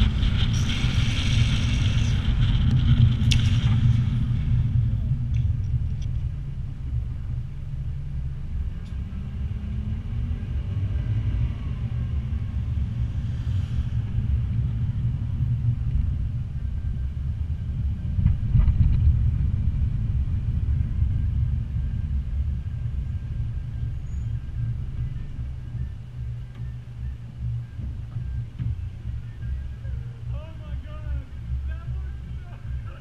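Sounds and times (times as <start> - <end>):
wind on microphone: 0.0 - 7.3, 9.0 - 32.9
longboard wheels rumbling on asphalt: 0.0 - 33.0.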